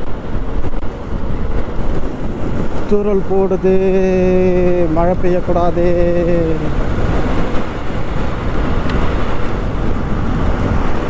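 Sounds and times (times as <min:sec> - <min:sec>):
road and vehicle noise: 0:00.0 - 0:11.0
wind buffeting microphone: 0:00.0 - 0:11.0.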